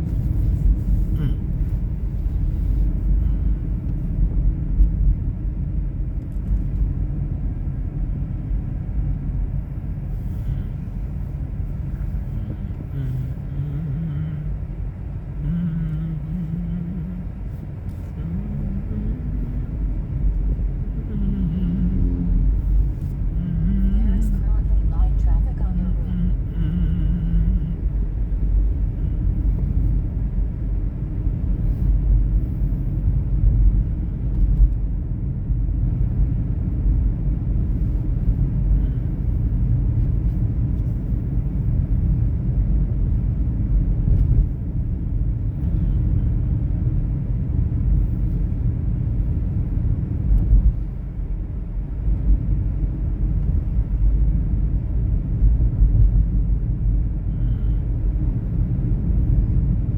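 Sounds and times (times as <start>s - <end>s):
vehicle cabin rumble: 0.0s - 59.9s.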